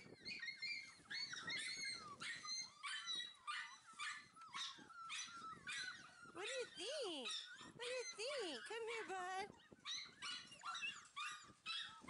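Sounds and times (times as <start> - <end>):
puppies yipping and whining: 0.0 - 12.0.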